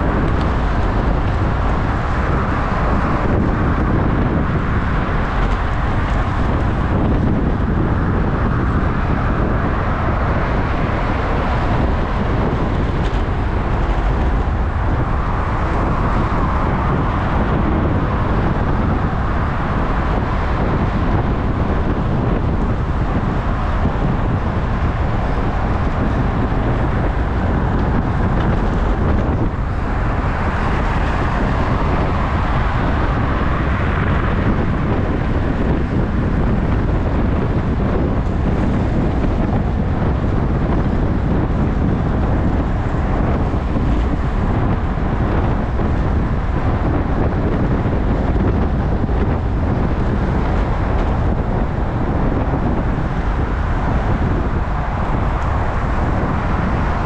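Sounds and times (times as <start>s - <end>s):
car traffic passing: 0.0s - 57.0s
wind and road noise: 0.0s - 57.0s.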